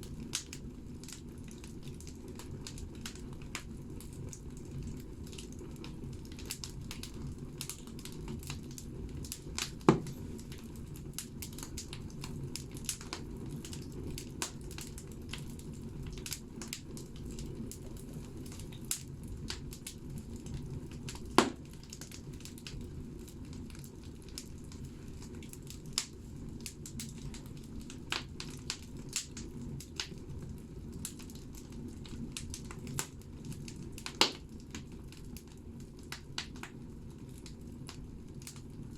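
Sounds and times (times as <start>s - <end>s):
loud pops of burning wood: 0.0s - 38.8s
fire rumbling: 0.0s - 38.9s
wood fire crackling: 0.0s - 38.9s.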